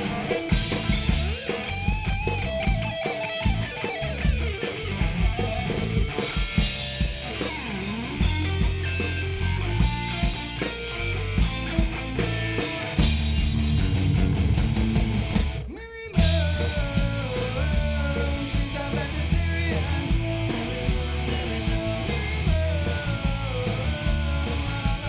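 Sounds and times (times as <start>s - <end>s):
bass guitar: 0.0s - 25.0s
drum kit: 0.0s - 25.0s
electric guitar lead: 0.0s - 25.0s.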